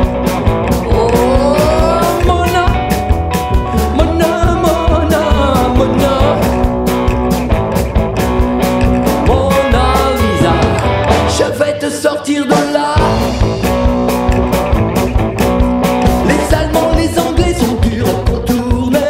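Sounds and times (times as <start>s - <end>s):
driving drum beat: 0.0s - 19.0s
rock band playing: 0.0s - 19.0s.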